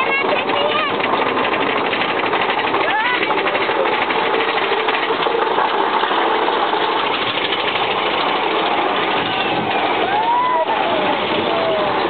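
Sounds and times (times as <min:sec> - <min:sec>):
roller coaster cars rattling: 0:00.0 - 0:12.0.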